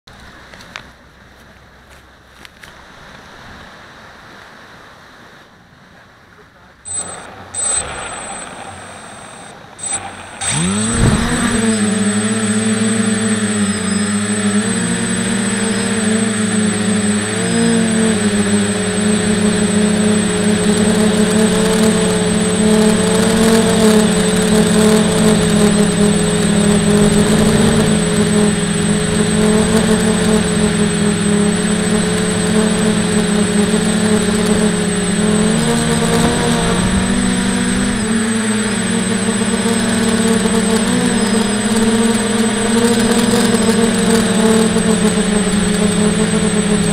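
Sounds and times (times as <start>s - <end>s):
high thin whine: 6.6s - 46.9s
drone propellers spinning: 6.8s - 46.9s.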